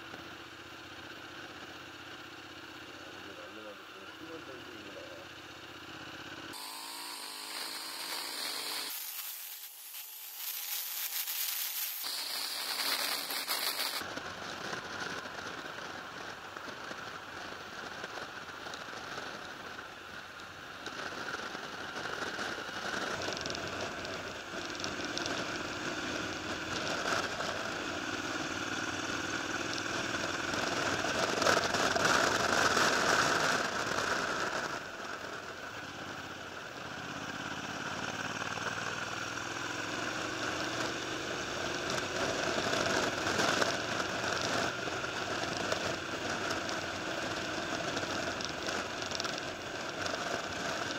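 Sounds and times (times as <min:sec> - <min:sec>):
motorcycle engine: 0:00.0 - 0:50.9
road noise: 0:00.0 - 0:50.9.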